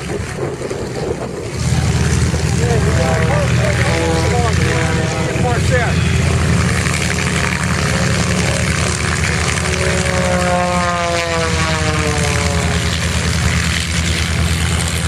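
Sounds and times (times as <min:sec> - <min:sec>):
propeller plane engine running: 0:00.0 - 0:15.0.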